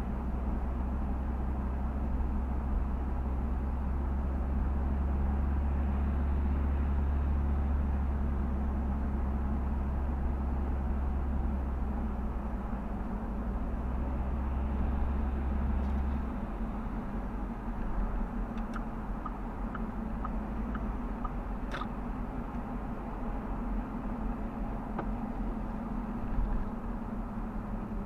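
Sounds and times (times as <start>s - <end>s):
car road and engine noise: 0.0s - 28.0s.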